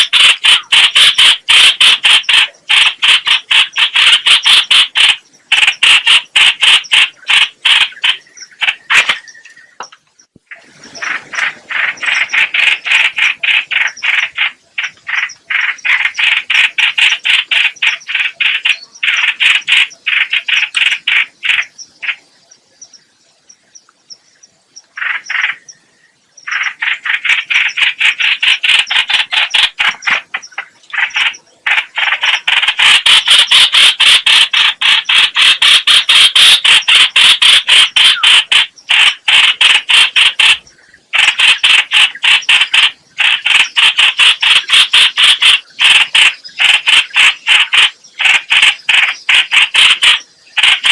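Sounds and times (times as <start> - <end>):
bird calling harsh repeated notes: 0.0 - 23.8, 24.7 - 50.9.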